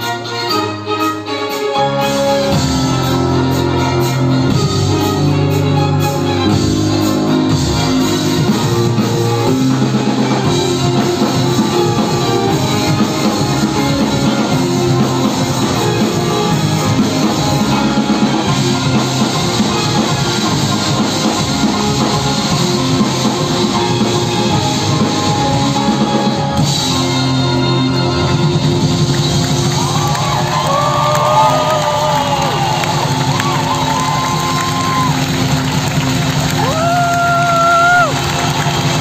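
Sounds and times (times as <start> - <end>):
strings with drums rock ballad: 0.0 - 31.4.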